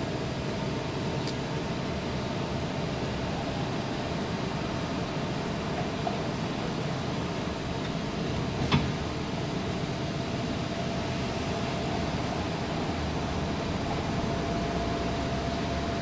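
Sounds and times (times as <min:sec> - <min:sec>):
streetcar rumble: 0:00.0 - 0:16.0.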